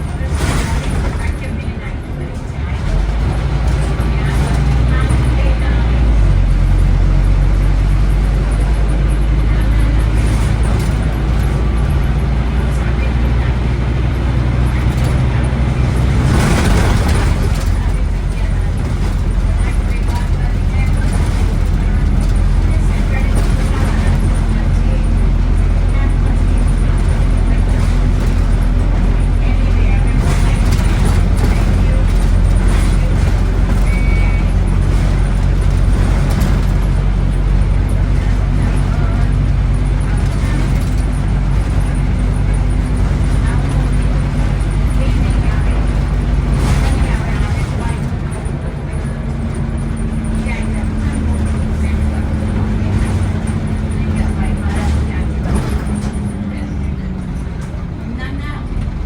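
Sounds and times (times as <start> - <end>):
bus diesel engine droning: 0.0 - 59.0
road and body noise: 0.0 - 59.0.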